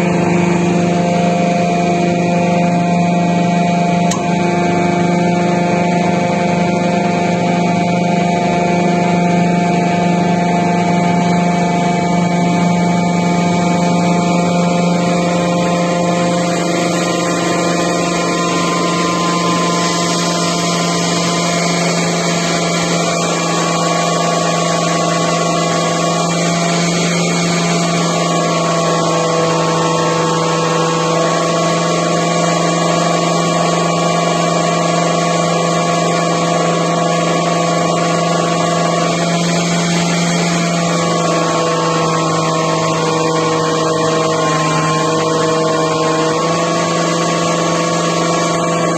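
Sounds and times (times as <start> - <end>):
hydraulic pump humming and whining: 0.0 - 48.9.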